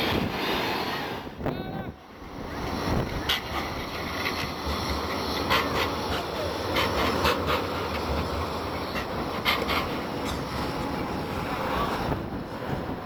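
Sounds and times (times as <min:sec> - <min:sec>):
tram running past: 0:00.0 - 0:13.0
wind buffeting microphone: 0:00.0 - 0:13.0.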